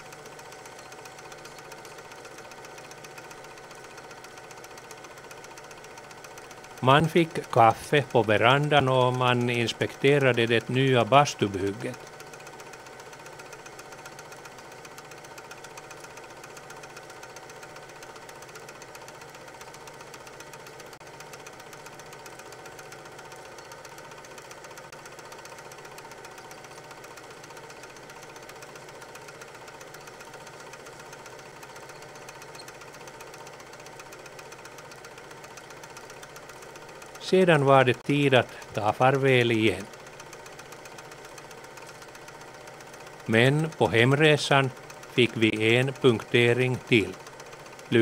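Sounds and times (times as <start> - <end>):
film projector mechanical clatter: 0.0 - 48.0
motor hum: 0.0 - 48.0.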